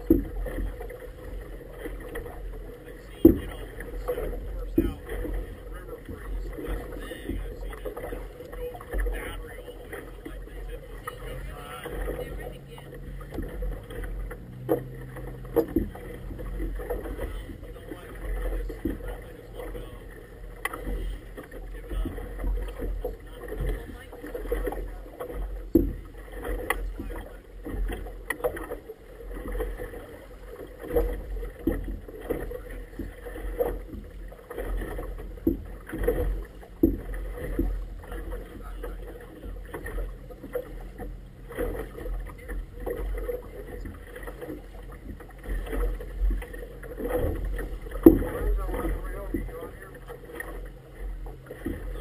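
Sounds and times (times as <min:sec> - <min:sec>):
waves slapping against boat: 0:00.0 - 0:52.0.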